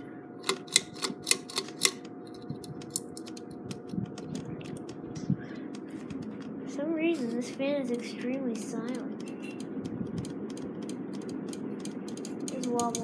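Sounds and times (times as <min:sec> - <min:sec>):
fan motor faint hum: 0:00.0 - 0:13.0.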